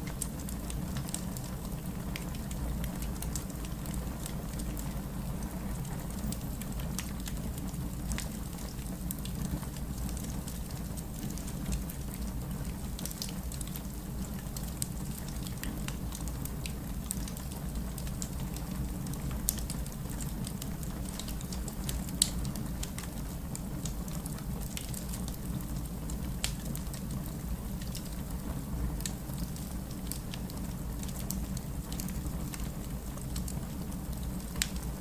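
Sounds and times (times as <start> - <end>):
low rumble of burning fire: 0.0 - 35.0
wood fire crackling and popping: 0.0 - 35.0.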